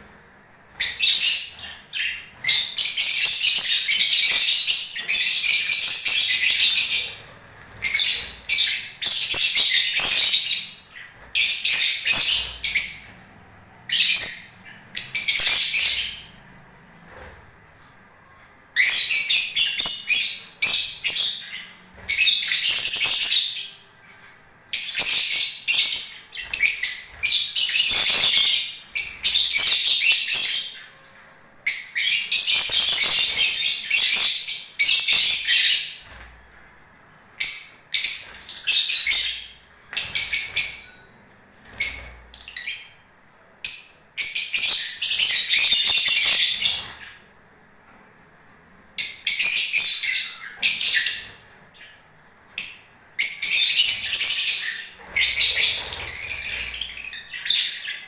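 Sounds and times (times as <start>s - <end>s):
lovebirds twittering: 0.7s - 17.3s, 18.7s - 36.6s, 37.4s - 43.0s, 43.6s - 47.4s, 49.0s - 58.0s.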